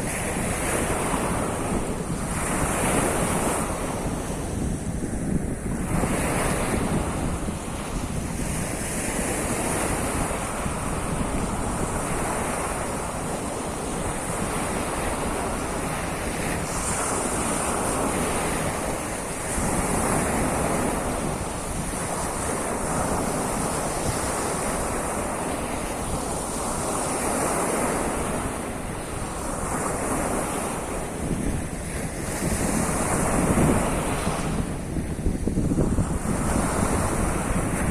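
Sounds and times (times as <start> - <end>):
waves breaking on shore: 0.0 - 37.9
wind buffeting microphone: 0.0 - 37.9.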